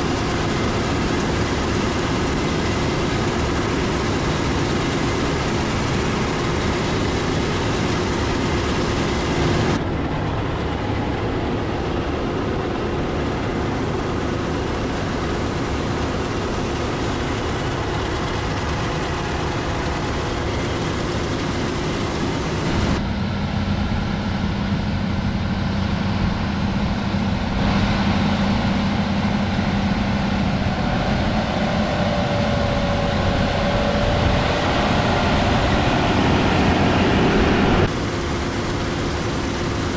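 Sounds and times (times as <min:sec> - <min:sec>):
combine and tractor engines: 0:00.0 - 0:39.9
faint steady whine: 0:00.0 - 0:39.9.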